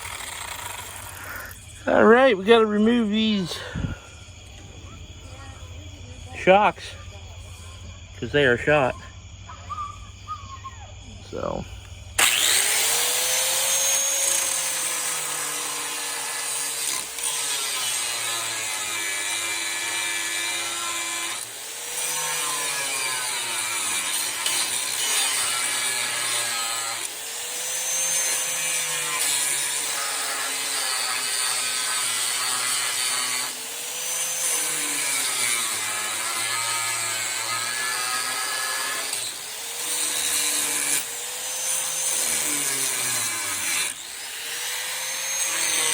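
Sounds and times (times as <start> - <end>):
power tool motor: 0.0 - 4.7, 11.4 - 45.9.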